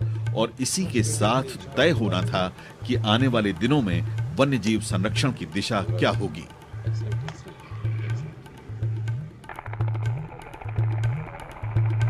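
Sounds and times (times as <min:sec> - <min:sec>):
light percussion ticks: 0:00.0 - 0:12.0.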